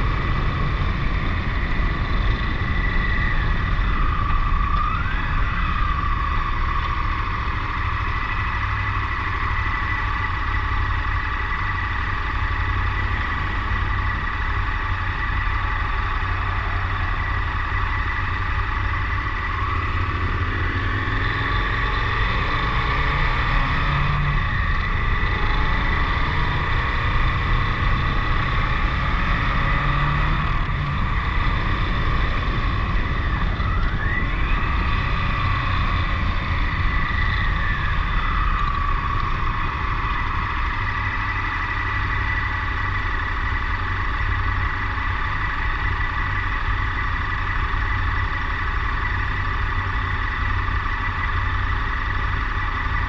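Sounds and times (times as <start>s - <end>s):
motorcycle engine running: 0.0s - 53.0s
steady whine: 0.0s - 53.0s.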